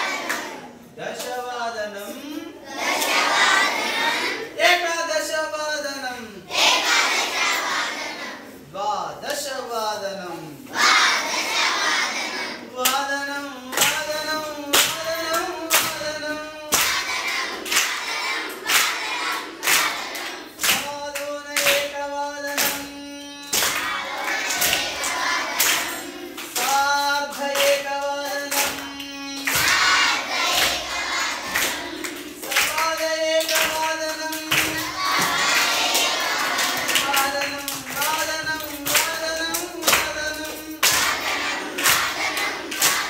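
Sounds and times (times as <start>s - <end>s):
children singing together: 0.0s - 0.9s, 2.0s - 4.6s, 6.5s - 8.7s, 10.7s - 12.8s, 13.7s - 43.0s
children clapping a steady beat: 0.0s - 2.1s, 2.7s - 4.5s, 6.5s - 8.1s, 9.2s - 9.5s, 10.6s - 43.0s.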